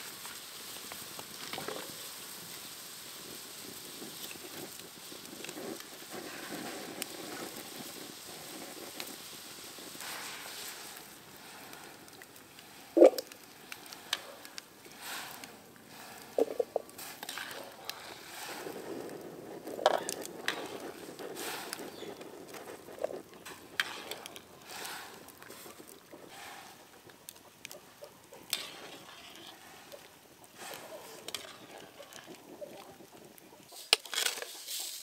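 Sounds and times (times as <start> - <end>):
faint crackling hiss: 0.0 - 35.0.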